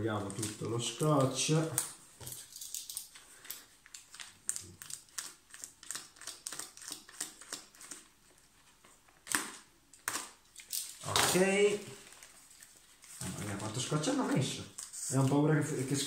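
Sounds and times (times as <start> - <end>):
newspaper rustling and crinkling: 0.0 - 16.0.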